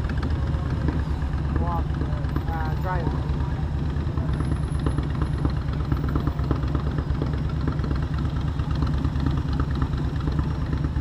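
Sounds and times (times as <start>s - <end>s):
motorcycle engine idling low: 0.0s - 11.0s.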